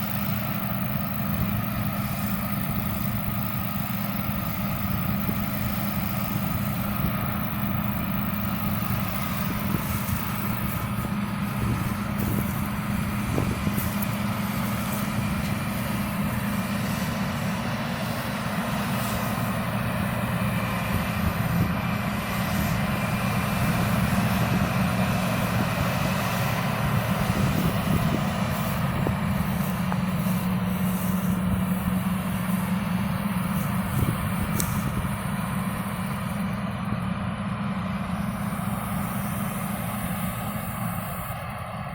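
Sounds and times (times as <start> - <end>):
combine harvester droning: 0.0 - 41.9.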